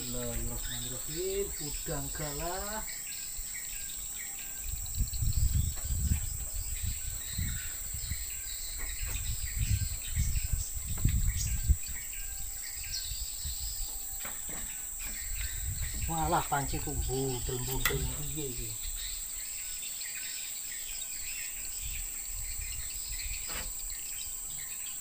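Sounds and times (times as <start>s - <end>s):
bird chirps: 0.0s - 25.0s
high-pitched insect drone: 0.0s - 25.0s.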